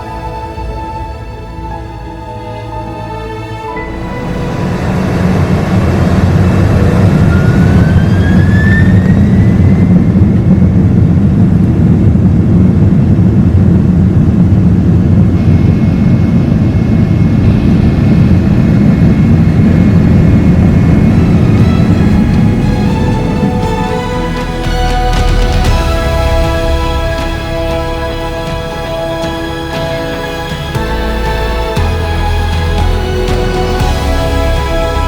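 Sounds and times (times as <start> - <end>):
jet engines spooling up: 0.0 - 35.0.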